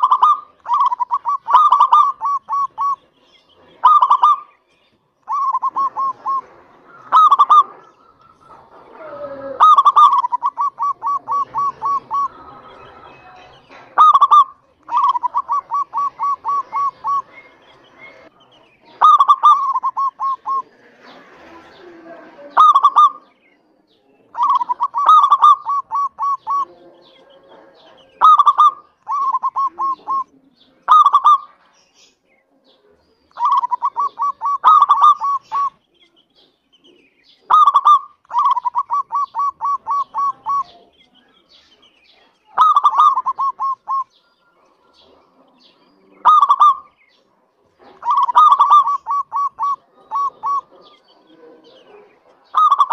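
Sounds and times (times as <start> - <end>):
dove cooing song: 0.0 - 52.9.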